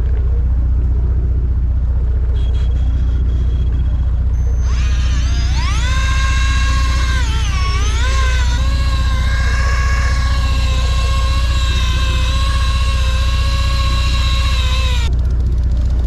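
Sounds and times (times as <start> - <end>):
boat engine droning: 0.0 - 16.0
fishing reel motor whining: 2.4 - 16.0.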